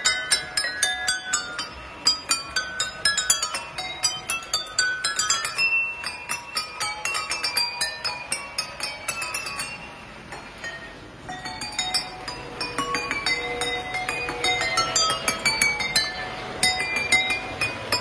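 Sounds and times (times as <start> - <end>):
glasses struck ringing melody: 0.0 - 18.0.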